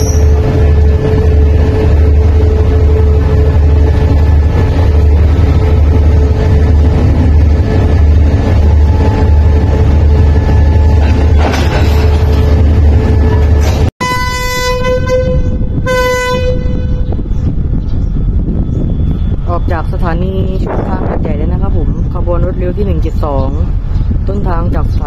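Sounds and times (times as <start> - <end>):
locomotive engine rumbling: 0.0 - 25.0.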